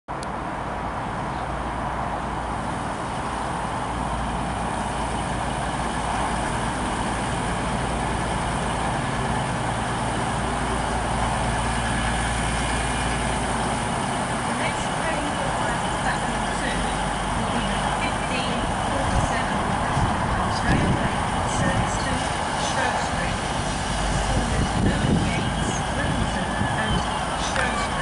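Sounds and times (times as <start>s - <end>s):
diesel train engines rumbling: 0.1s - 28.0s.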